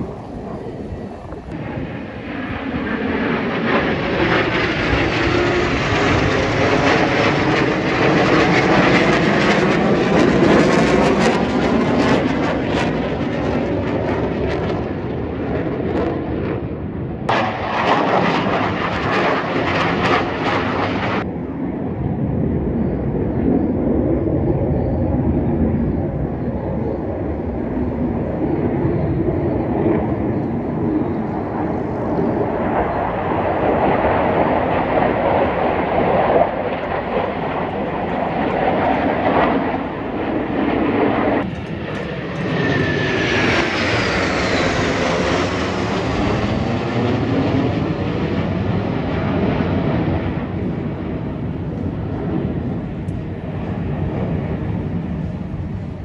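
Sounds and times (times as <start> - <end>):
jets flying overhead: 0.0 - 56.0.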